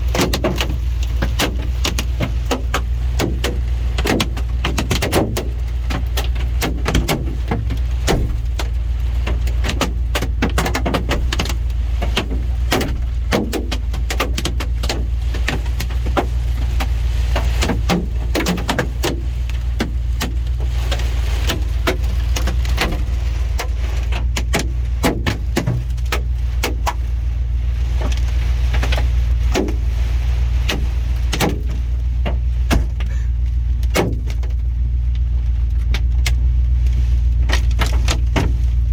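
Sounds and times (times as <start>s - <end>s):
hailstones pelting vehicle roof: 0.0s - 38.9s
vehicle low hum: 0.0s - 38.9s.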